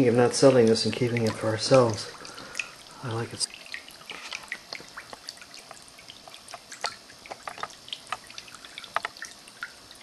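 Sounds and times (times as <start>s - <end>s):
fountain water trickling: 0.0s - 10.0s
water drips and plinks: 0.0s - 10.0s.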